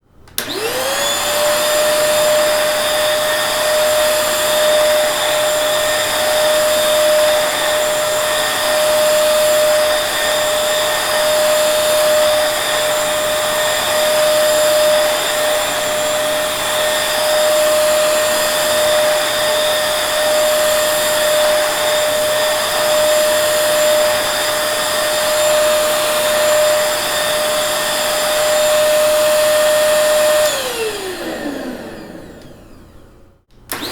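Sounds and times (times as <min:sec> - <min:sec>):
vacuum cleaner motor whine: 0:00.2 - 0:33.9.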